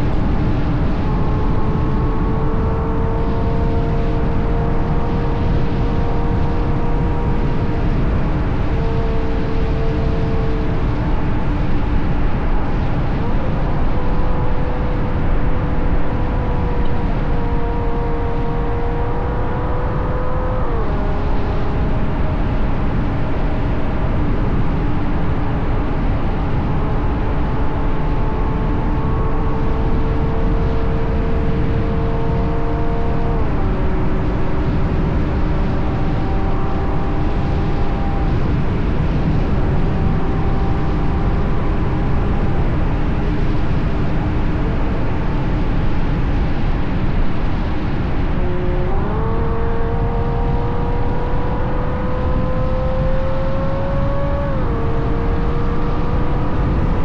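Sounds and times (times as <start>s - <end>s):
car engine cruising: 0.0s - 57.0s
wind and tyre noise: 0.0s - 57.0s.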